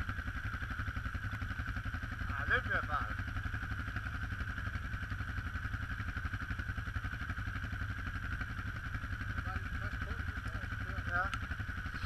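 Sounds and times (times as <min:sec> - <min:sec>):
engine chugging at low revs: 0:00.0 - 0:12.0.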